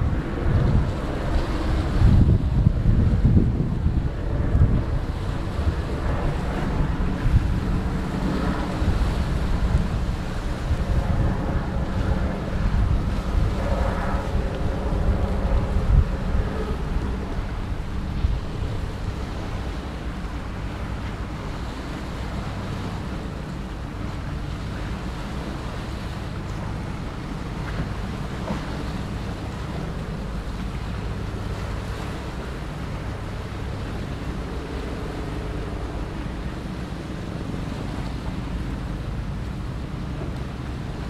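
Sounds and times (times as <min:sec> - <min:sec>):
tugboat diesel engine drone: 0:00.0 - 0:41.0
wind rumbling on microphone: 0:00.0 - 0:41.0.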